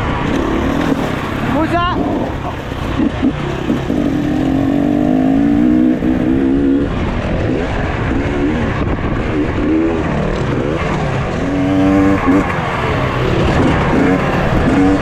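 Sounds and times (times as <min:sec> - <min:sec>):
off-road motorcycle engines revving: 0:00.0 - 0:15.0.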